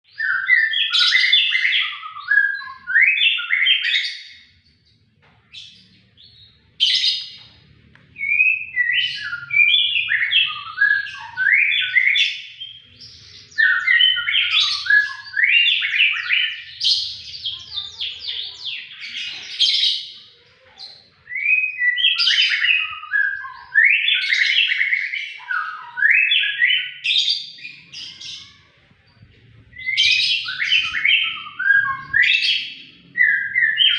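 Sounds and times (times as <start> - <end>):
bird singing: 0.0 - 33.9.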